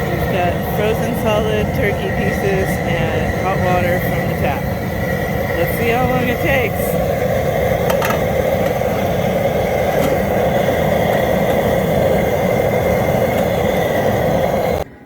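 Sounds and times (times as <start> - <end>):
propane burner roaring: 0.0 - 15.0.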